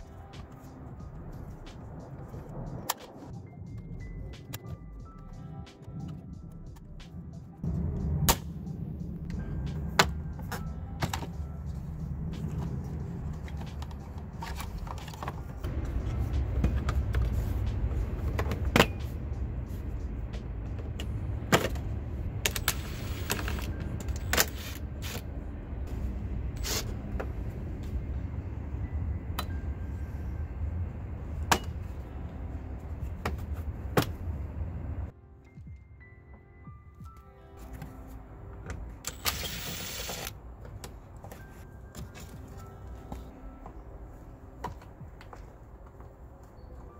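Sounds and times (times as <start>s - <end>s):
quiet background music: 0.0s - 46.9s.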